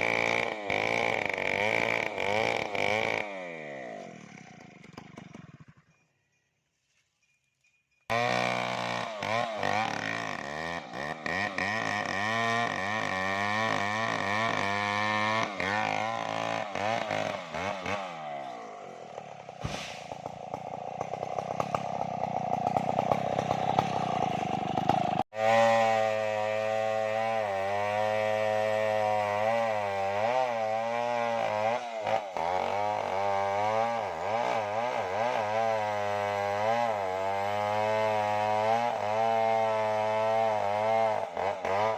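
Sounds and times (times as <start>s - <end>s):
chainsaw cutting wood: 0.0s - 6.0s, 8.1s - 41.9s.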